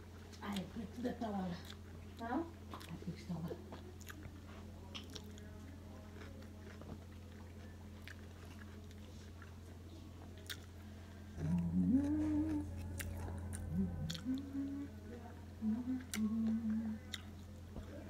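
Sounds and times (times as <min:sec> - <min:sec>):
low hum: 0:00.0 - 0:18.0
person chewing food: 0:01.6 - 0:03.0, 0:03.7 - 0:14.9, 0:15.9 - 0:18.0.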